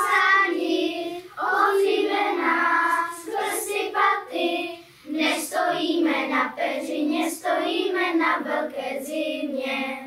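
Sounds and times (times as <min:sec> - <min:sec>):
children singing: 0:00.0 - 0:10.0.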